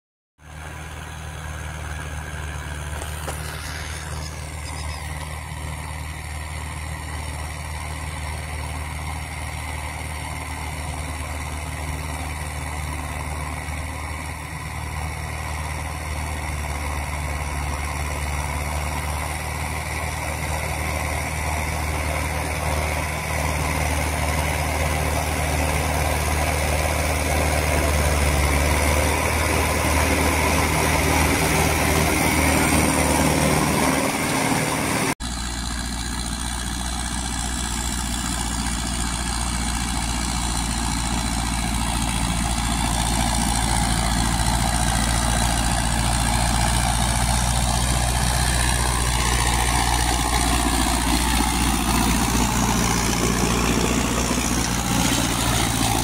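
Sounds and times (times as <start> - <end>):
tractor diesel engine running: 0.4 - 56.0.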